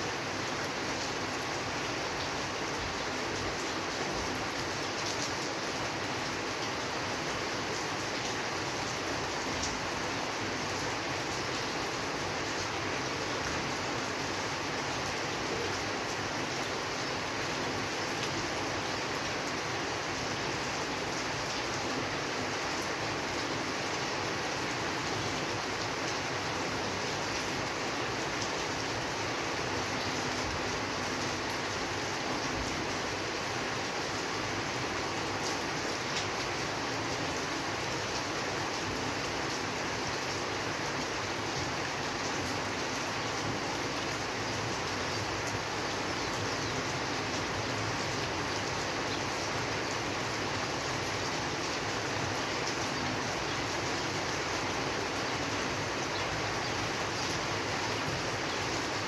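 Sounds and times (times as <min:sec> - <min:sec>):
patter of raindrops: 0:00.0 - 0:59.0
steady rain hiss: 0:00.0 - 0:59.0.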